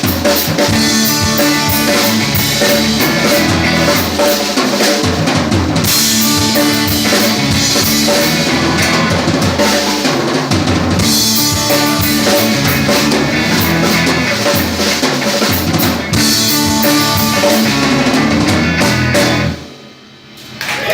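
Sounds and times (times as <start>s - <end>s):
live band playing: 0.0s - 19.8s
drum kit pounding: 0.0s - 20.4s.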